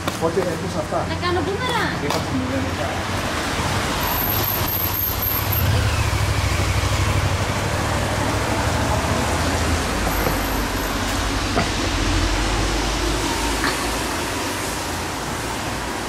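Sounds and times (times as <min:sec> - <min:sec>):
vehicle engine rumbling: 0:02.3 - 0:16.0.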